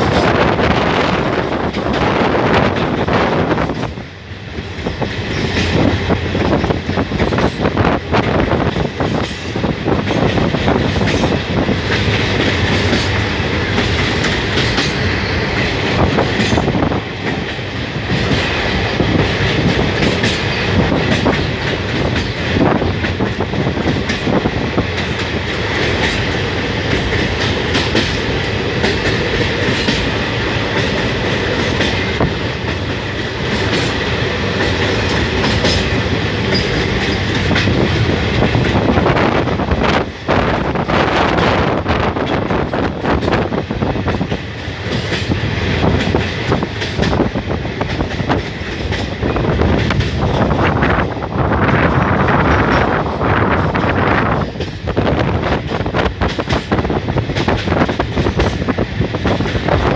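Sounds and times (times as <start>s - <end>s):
train rumble: 0.0s - 59.9s
train wheels clattering over rail joints: 0.0s - 59.9s.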